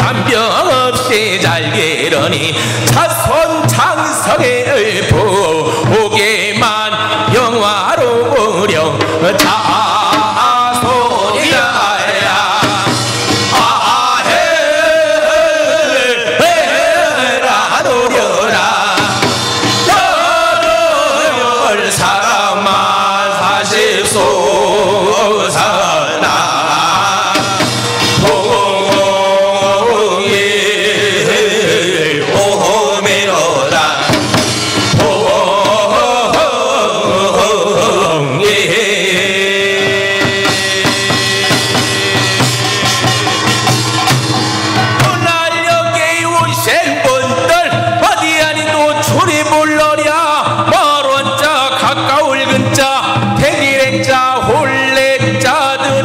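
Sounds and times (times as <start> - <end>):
man singing chant: 0.0 - 19.3, 19.9 - 43.4, 44.8 - 56.0
barrel drum: 0.0 - 56.0.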